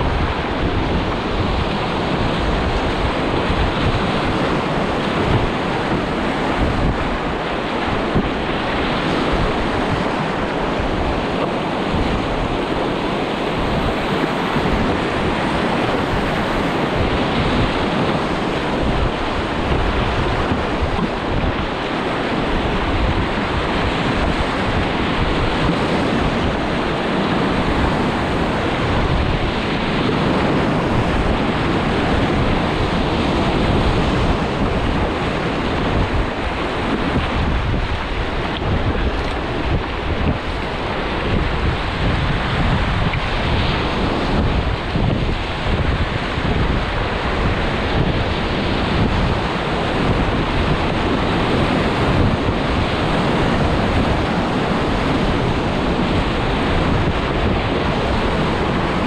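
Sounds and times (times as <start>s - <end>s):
rushing whitewater: 0.0s - 59.0s
wind buffeting microphone: 0.0s - 59.0s.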